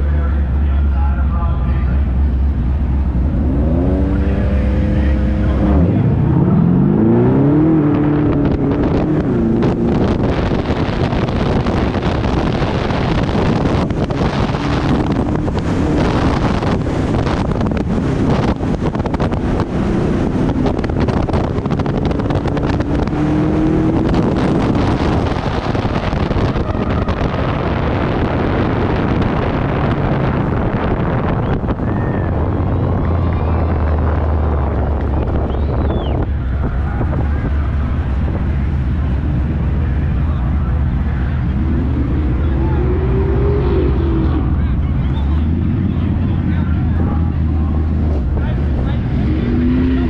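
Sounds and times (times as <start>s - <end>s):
car engine revving: 0.0s - 50.0s
wind buffeting microphone: 2.1s - 50.0s.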